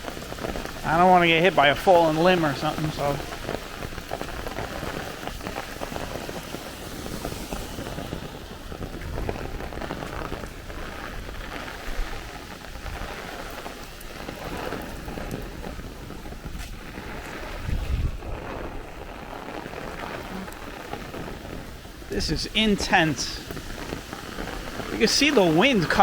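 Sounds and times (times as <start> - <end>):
heavy rain: 0.0 - 26.0
raindrops splashing on surfaces: 0.0 - 26.0.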